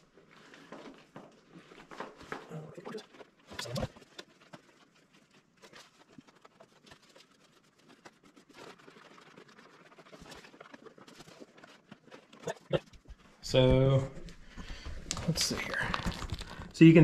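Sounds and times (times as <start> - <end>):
small clicks and rustling: 0.1 - 13.6, 14.2 - 17.0.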